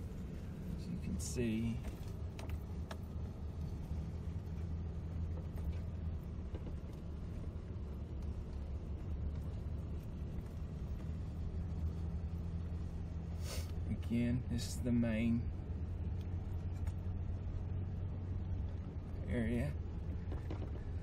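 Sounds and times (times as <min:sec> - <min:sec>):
rolling rumble over grass: 0:00.0 - 0:21.0
vehicle engine drone: 0:00.0 - 0:21.0.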